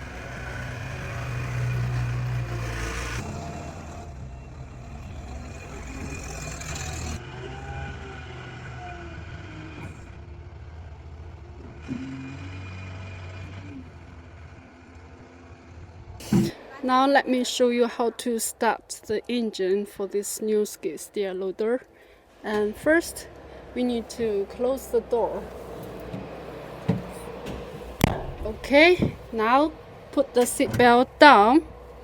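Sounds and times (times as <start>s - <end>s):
loader engine running: 0.0s - 18.4s, 22.3s - 32.0s.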